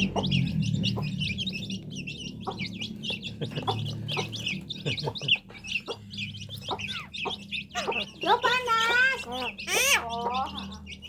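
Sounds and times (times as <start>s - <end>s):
chickens clucking: 0.0s - 11.0s
chicks peeping: 0.0s - 11.0s.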